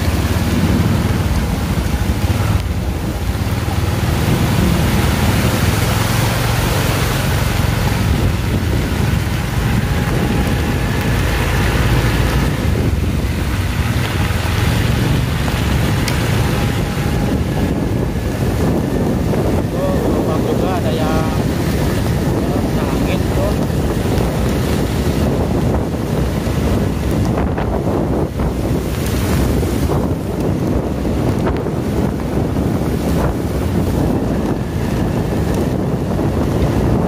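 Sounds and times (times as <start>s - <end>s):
heavy rain: 0.0s - 37.0s
vehicle driving drone: 0.0s - 37.0s
wind rumbling on microphone: 0.0s - 37.0s.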